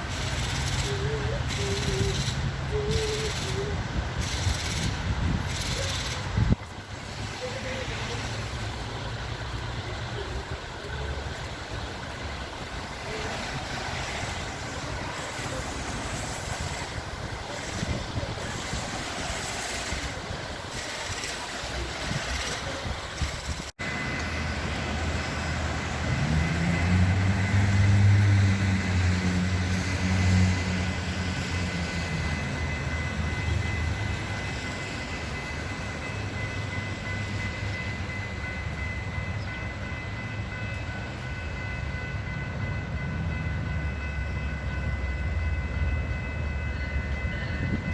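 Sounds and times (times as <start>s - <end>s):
diesel locomotive rumbling: 0.0s - 47.9s
traffic: 0.0s - 47.9s.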